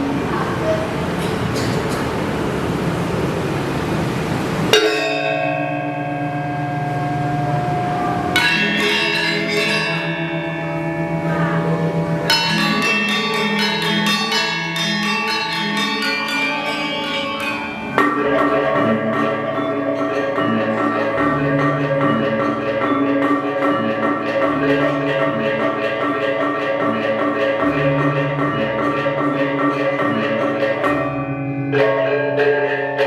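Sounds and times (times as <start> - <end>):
gamelan ensemble playing: 0.0 - 2.6, 4.6 - 33.0.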